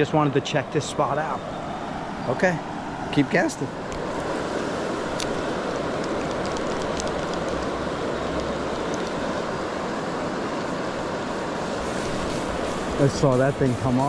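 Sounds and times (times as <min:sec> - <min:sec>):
river water rushing: 0:00.2 - 0:14.0.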